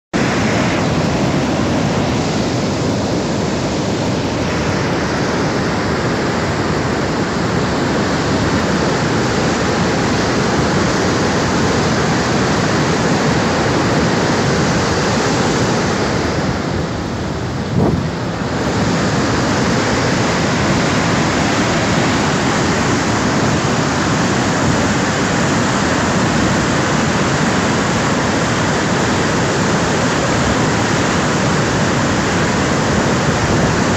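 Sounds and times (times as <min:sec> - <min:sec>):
floodwater rushing: 0:00.2 - 0:33.9.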